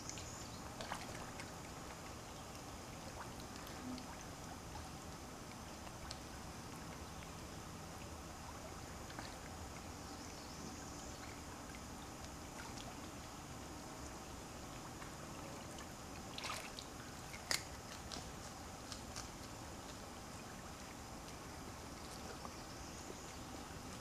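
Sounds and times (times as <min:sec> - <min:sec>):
small water splashes: 0:00.0 - 0:10.1, 0:11.1 - 0:22.6
steady low hiss: 0:00.0 - 0:24.0.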